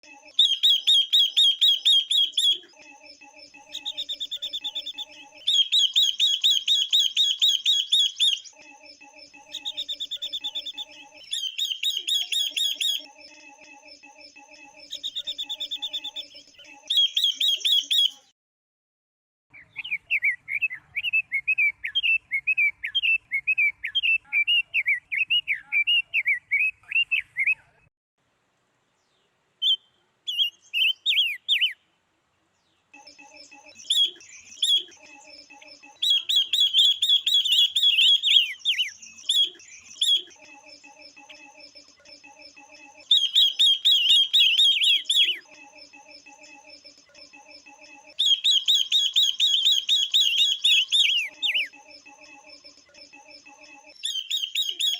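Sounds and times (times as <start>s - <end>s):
birds chirping: 0.0s - 18.3s, 19.5s - 27.8s, 28.8s - 54.9s.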